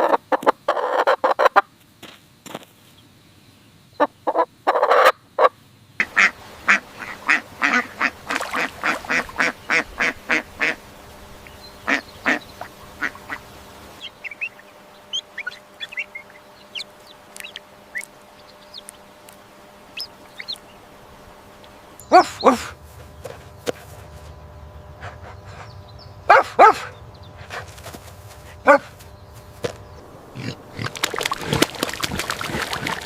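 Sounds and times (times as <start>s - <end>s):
duck quacking: 4.0s - 10.8s, 11.4s - 24.3s, 24.9s - 33.0s
small birds chirping: 5.9s - 33.0s.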